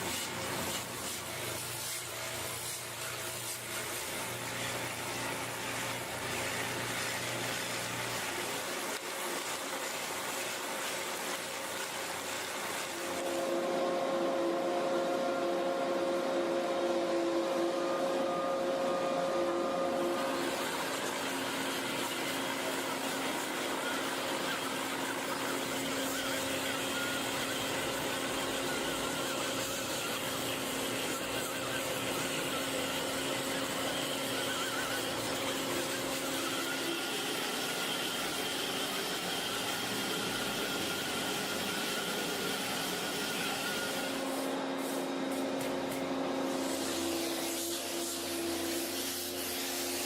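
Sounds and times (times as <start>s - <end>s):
machine hissing with whine: 0.0s - 50.0s.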